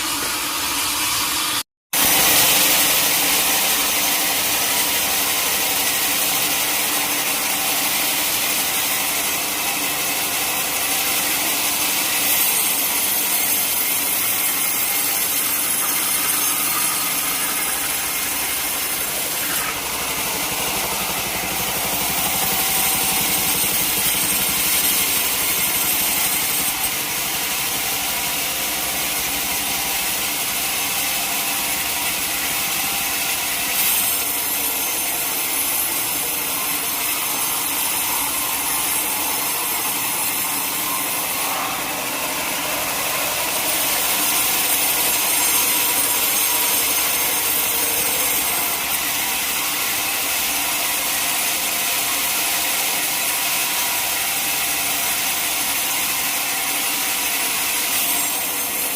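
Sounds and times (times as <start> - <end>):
saw cutting through log: 0.0 - 58.9.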